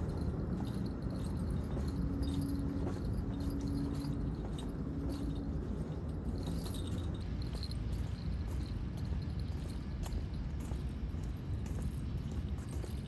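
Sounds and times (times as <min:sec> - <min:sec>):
low hum: 0:00.0 - 0:13.0
wind rumbling on microphone: 0:00.0 - 0:13.0.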